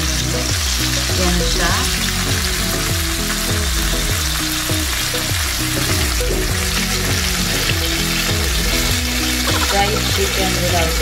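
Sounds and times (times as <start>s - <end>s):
background music with low beat: 0.0s - 11.0s
chicken sizzling in fat: 0.0s - 11.0s.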